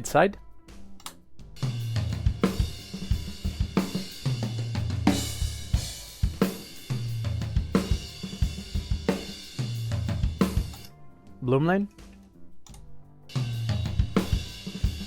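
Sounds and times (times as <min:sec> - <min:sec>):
acoustic drum kit groove: 0:00.0 - 0:15.0.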